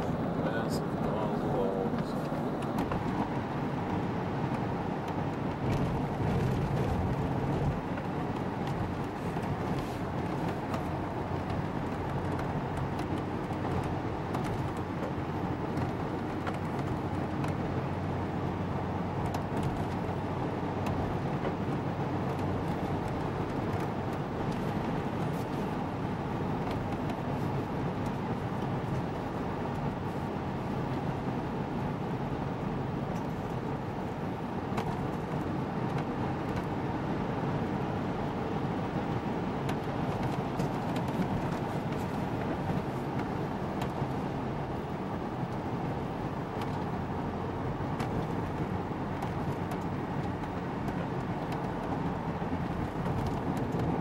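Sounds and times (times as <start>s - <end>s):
car cabin road noise: 0.0s - 54.0s.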